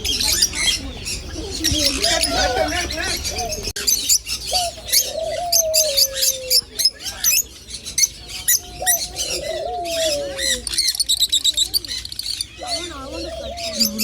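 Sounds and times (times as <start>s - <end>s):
caged birds chirping: 0.0s - 14.0s.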